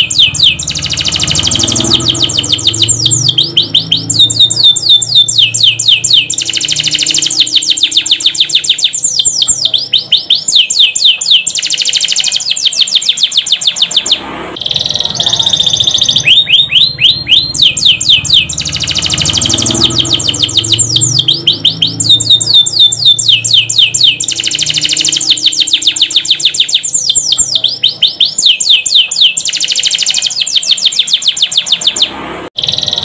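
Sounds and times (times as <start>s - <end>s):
canary singing: 0.0s - 33.0s.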